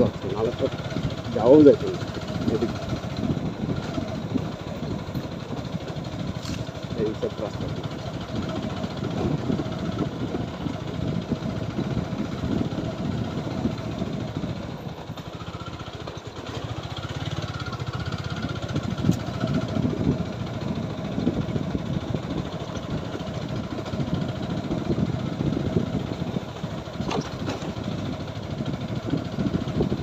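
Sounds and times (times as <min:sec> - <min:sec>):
motorcycle engine throbbing: 0:00.0 - 0:30.0.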